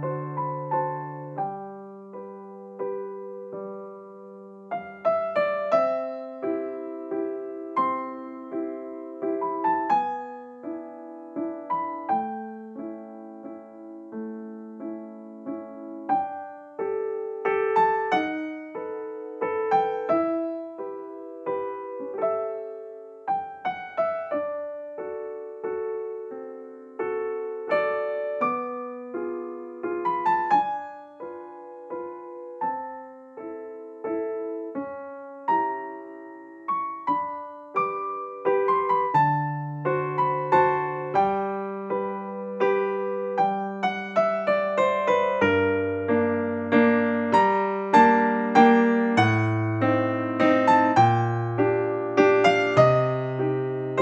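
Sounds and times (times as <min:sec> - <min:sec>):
gentle piano melody: 0:00.0 - 0:54.0.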